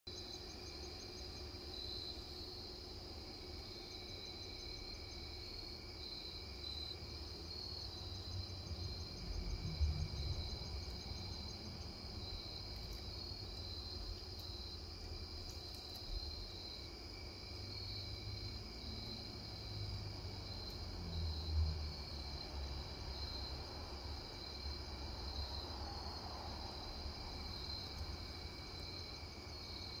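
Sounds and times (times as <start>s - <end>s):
crickets trilling: 0.1s - 30.0s.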